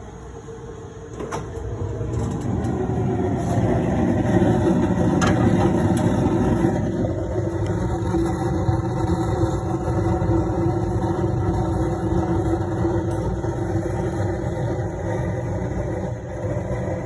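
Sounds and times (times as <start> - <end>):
oil burner flame and fan roaring: 0.0 - 17.0.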